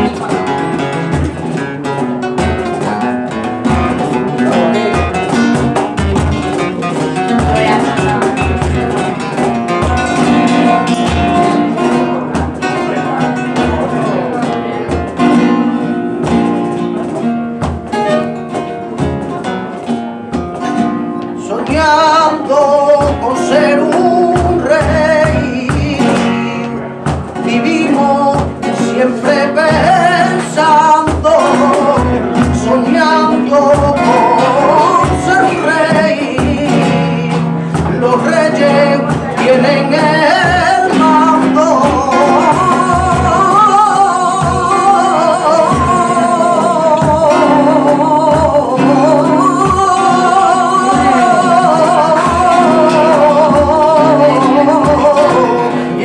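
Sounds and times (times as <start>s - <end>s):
flamenco guitar: 0.0s - 56.0s
man singing flamenco: 0.0s - 56.0s.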